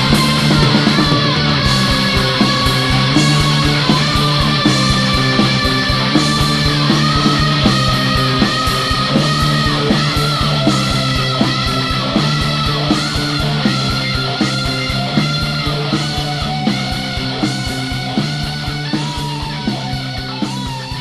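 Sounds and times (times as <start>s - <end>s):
heavy rock music: 0.0s - 21.0s.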